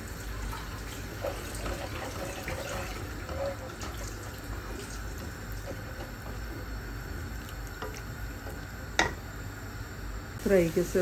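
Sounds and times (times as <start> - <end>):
curry bubbling in pot: 0.0 - 9.3.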